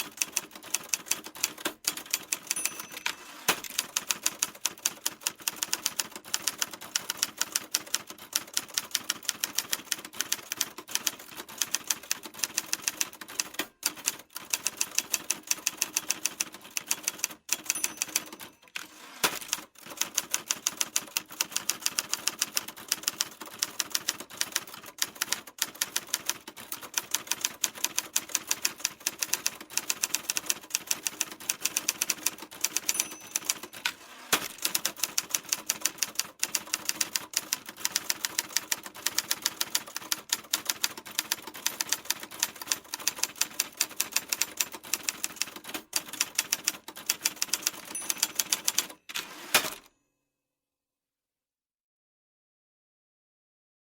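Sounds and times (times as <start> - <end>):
typewriter keys clacking: 0.0 - 12.3, 13.4 - 49.8.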